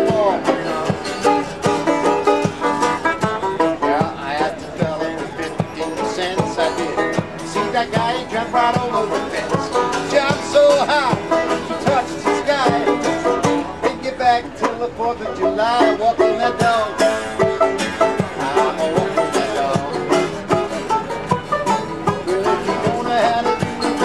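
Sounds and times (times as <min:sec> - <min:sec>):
plucked banjo: 0:00.0 - 0:24.0
strummed acoustic guitar: 0:00.0 - 0:24.0.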